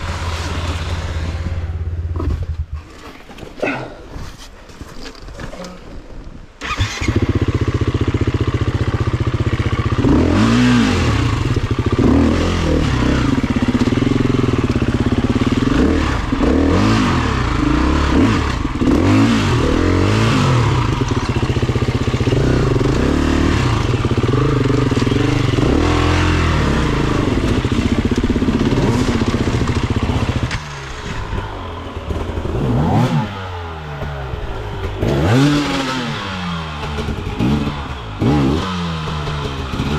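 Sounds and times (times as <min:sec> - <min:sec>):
motorcycle engine revving: 0:06.6 - 0:39.9.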